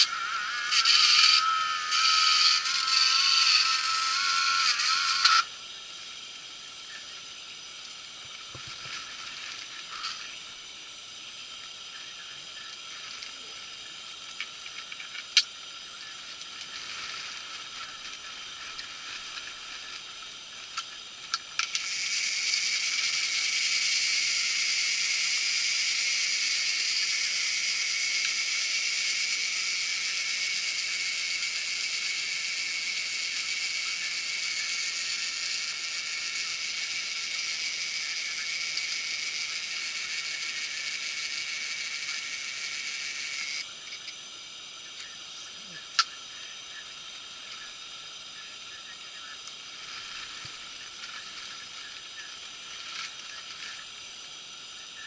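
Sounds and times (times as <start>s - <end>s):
steady hiss: 0.0s - 55.0s
wavering whine with hiss: 0.0s - 55.0s.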